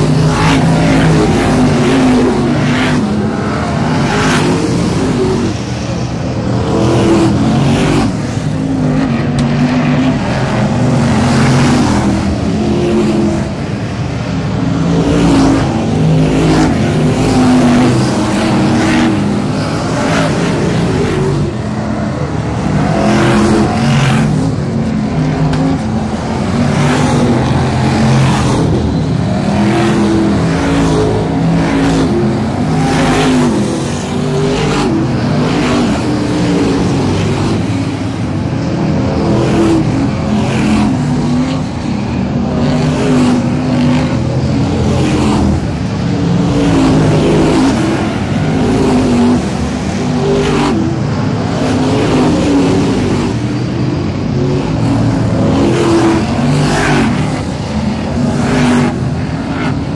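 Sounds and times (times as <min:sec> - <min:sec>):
racing car engines passing: 0:00.0 - 0:59.9.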